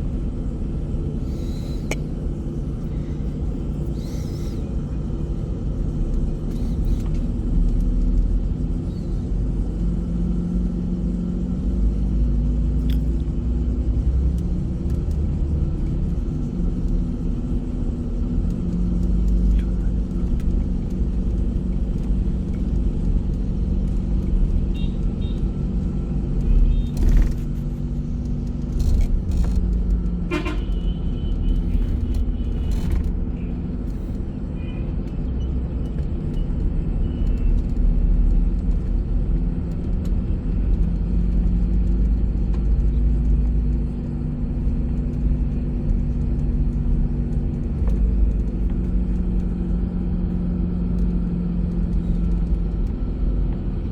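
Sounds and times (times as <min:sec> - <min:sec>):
bus engine drone: 0:00.0 - 0:53.9
road rumble: 0:00.0 - 0:53.9.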